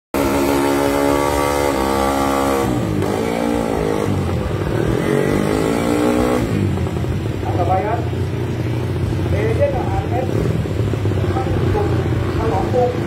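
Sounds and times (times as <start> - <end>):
motorcycle engine revving hard: 0.2 - 13.0.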